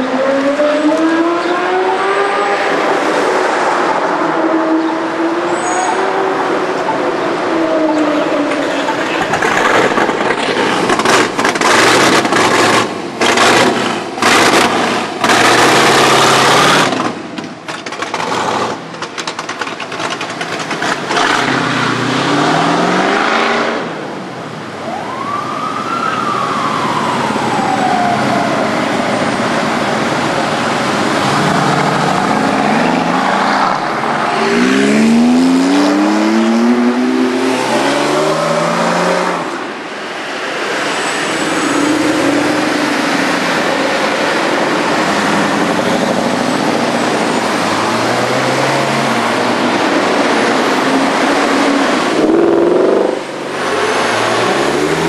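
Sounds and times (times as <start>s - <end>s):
sports car engines revving: 0.0s - 24.6s, 28.8s - 55.0s.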